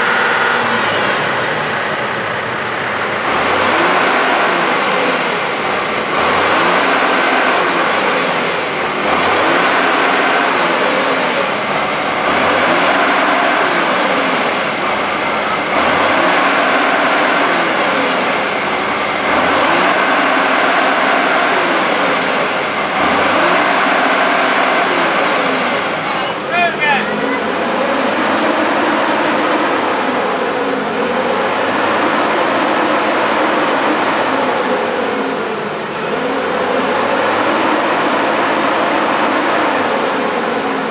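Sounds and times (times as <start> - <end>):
vehicle engine revving: 0.0 - 40.9.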